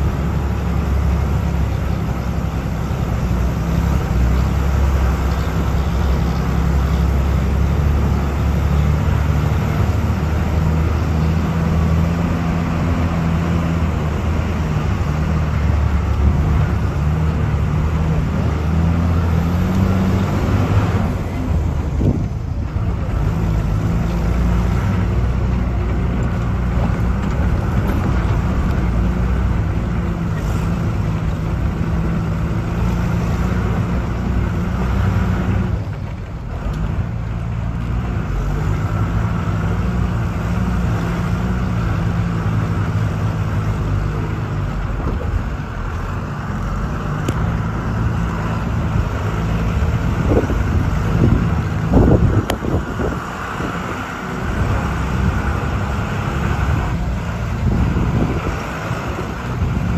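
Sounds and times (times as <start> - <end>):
bus engine droning: 0.0 - 59.9
road noise on gravel: 0.0 - 59.9.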